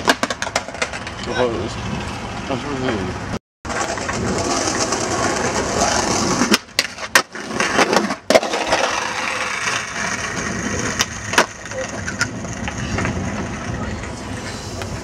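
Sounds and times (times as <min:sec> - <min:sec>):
skateboard clacking on pavement: 0:00.0 - 0:01.4, 0:03.7 - 0:15.0
skateboard wheels rolling on stone: 0:00.0 - 0:03.0, 0:03.7 - 0:15.0.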